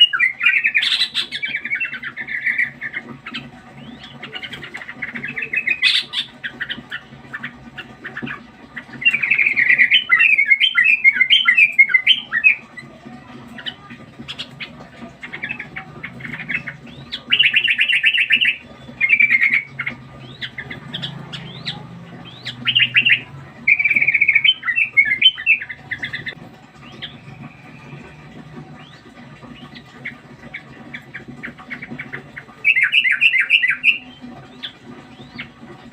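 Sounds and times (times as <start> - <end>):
bird chattering: 0.0 - 35.9.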